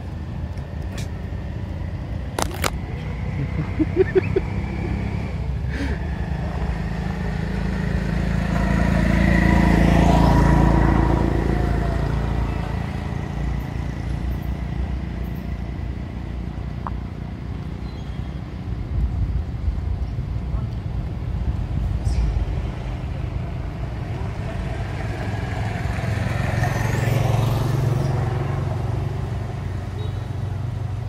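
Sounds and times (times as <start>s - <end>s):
vehicle engine rumble passing: 0.0s - 31.0s.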